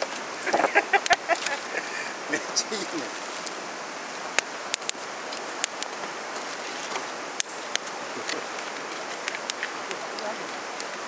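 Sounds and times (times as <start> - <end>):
campfire crackling and hissing: 0.0 - 11.0.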